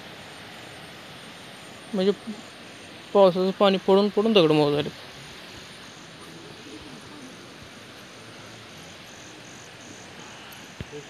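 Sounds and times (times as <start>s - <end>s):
insect chirping: 0.0s - 11.0s
outdoor hiss: 0.0s - 11.0s.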